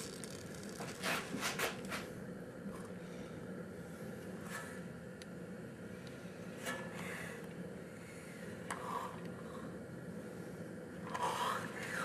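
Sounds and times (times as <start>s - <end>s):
engine low mechanical hum: 0.0s - 12.0s.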